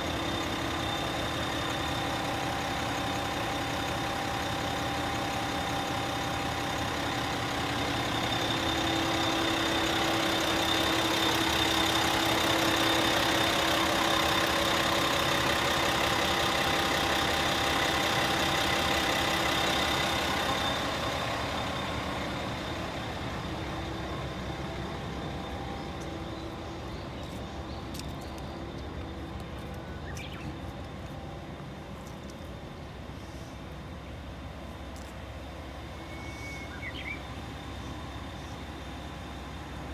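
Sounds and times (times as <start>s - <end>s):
diesel railcar engine idling: 0.0s - 39.9s.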